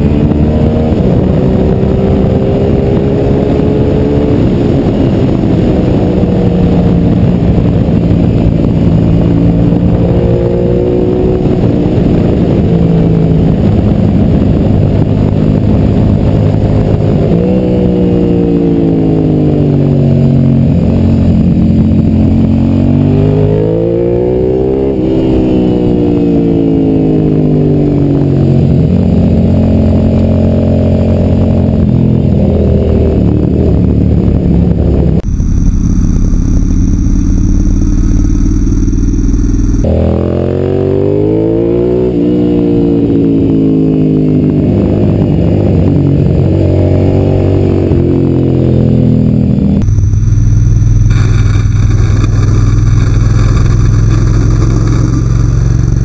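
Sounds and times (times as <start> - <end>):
motorcycle engine under way: 0.0 - 56.0
wind rush on microphone: 0.0 - 56.0.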